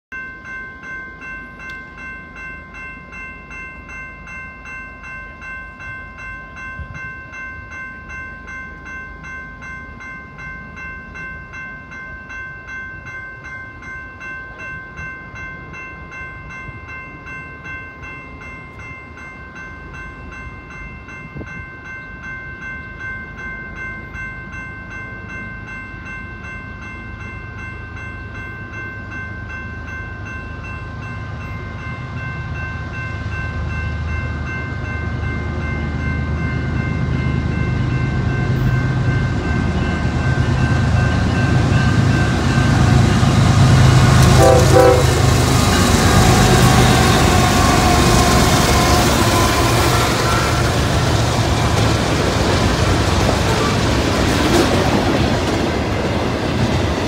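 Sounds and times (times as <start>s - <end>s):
railroad crossing bell ringing: 0.1s - 57.0s
freight train rumble: 0.4s - 57.0s.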